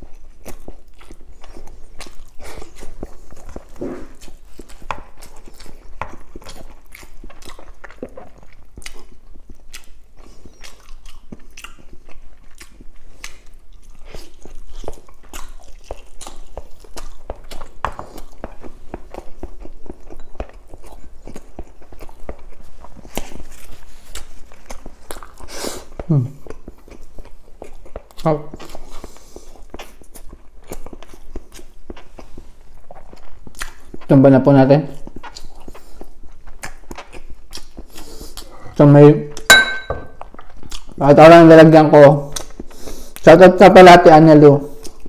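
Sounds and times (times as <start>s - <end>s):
person chewing meat: 0.0s - 43.6s, 44.5s - 45.0s.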